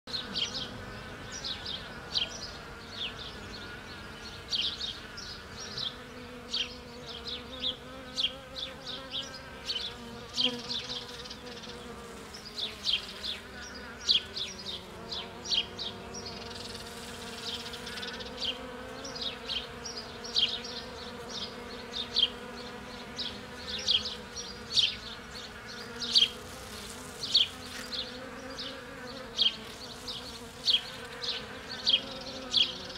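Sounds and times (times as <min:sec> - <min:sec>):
bees buzzing: 0:00.1 - 0:32.9.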